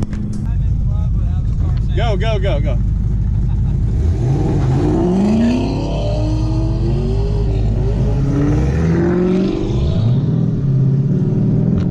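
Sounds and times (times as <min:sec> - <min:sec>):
car engines accelerating: 0:00.0 - 0:11.9.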